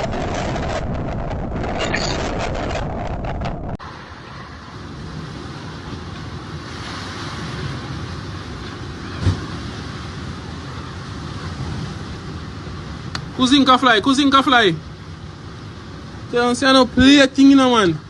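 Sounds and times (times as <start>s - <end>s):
strong wind blowing: 0.0s - 17.5s.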